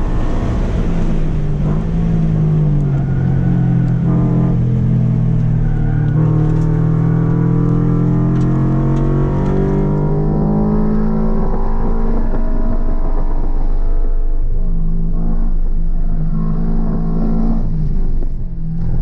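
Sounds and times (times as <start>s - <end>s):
car engine revving from inside cabin: 0.0s - 13.0s, 15.0s - 19.0s.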